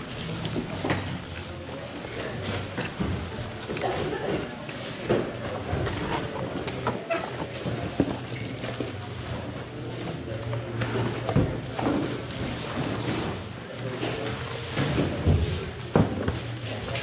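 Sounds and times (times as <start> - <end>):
murmur of voices: 0.0 - 17.0.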